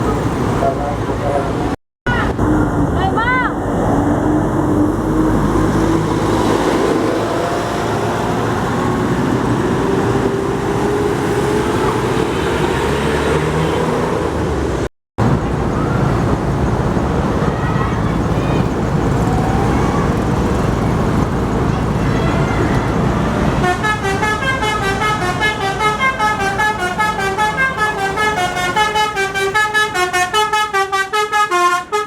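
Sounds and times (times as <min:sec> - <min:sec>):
heavy vehicle engine accelerating: 0:00.0 - 0:30.8
road traffic passing: 0:00.0 - 0:32.0.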